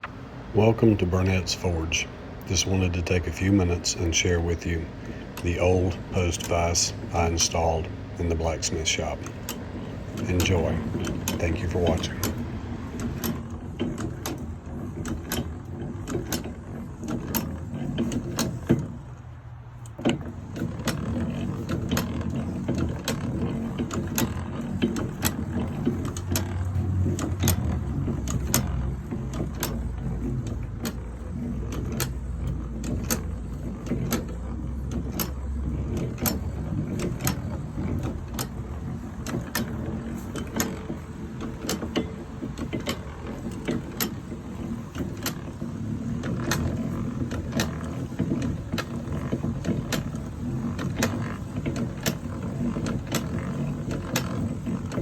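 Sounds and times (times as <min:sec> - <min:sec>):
hand-cranked drill gears rumbling: 0:00.0 - 0:55.0
regular clicking of drill: 0:00.0 - 0:55.0.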